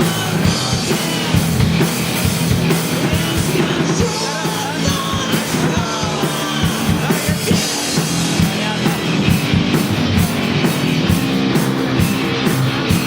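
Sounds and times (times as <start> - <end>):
drum-kit beat: 0.0 - 13.0
live rock band playing: 0.0 - 13.0.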